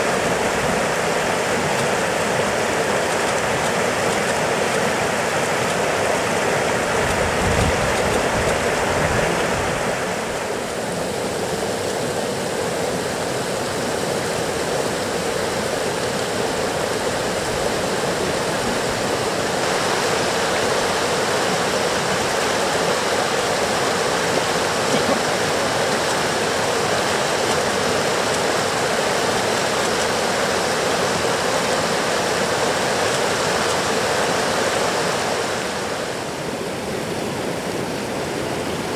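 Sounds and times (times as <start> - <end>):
river water rushing over weir: 0.0 - 38.9.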